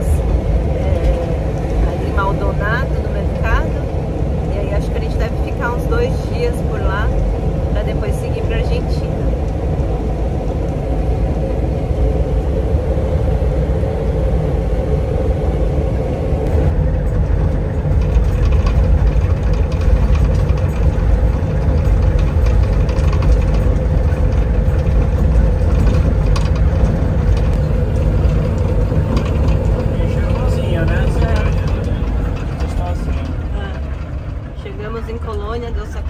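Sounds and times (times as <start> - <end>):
engine and road rumble: 0.0 - 36.0.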